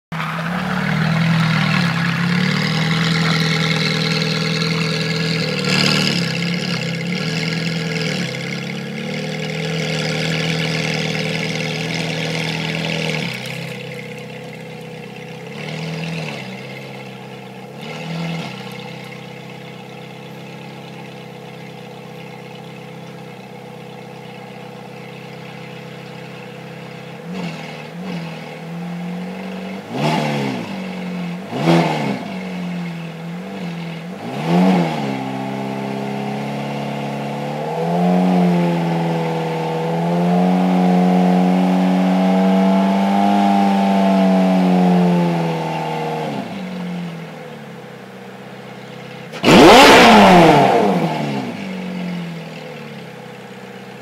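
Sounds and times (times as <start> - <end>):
car engine idling: 0.1 - 54.0
engine throttle blips: 0.1 - 54.0.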